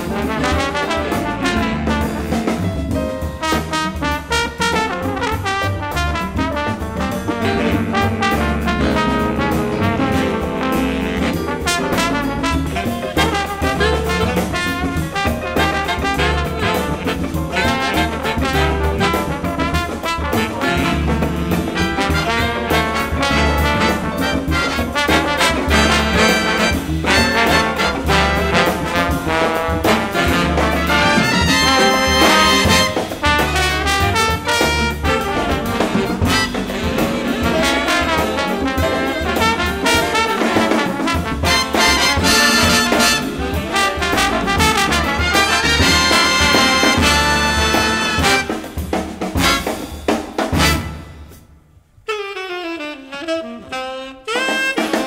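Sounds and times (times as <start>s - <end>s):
trombone solo: 0.0s - 2.8s, 3.4s - 51.4s, 52.1s - 55.0s
jazz big band playing: 0.0s - 55.0s.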